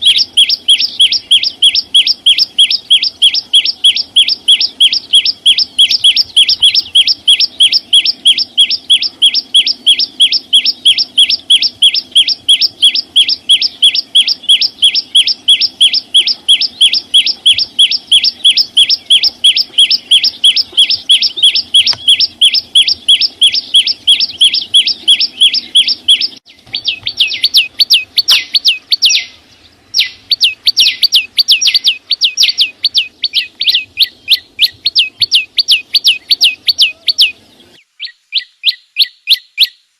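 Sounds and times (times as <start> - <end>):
small bird calling short sharp notes: 0.0 - 39.8.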